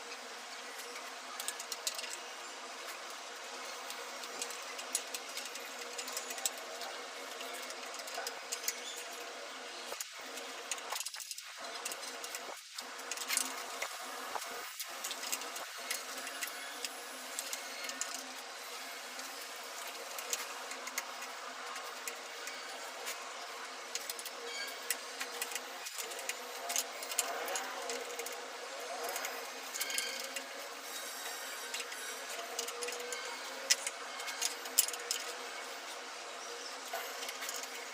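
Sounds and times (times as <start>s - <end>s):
small mechanical clicks: 0.1s - 37.9s.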